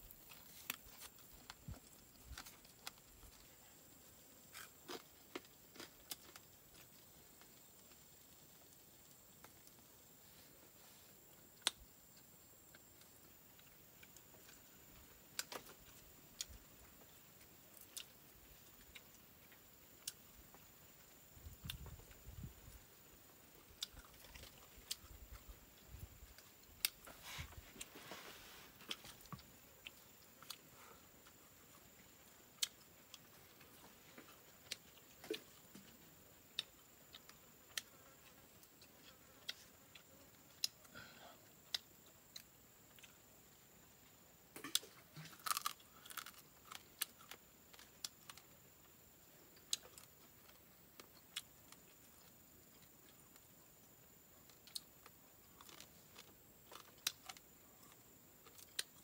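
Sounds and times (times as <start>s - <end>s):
person eating by hand: 0.0s - 59.0s
chewing and crunching: 0.1s - 59.0s.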